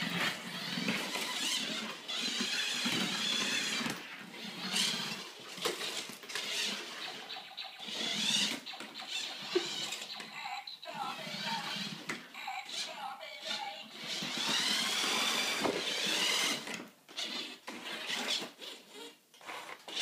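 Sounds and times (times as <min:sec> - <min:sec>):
toy electric motor whining: 0:00.0 - 0:20.0.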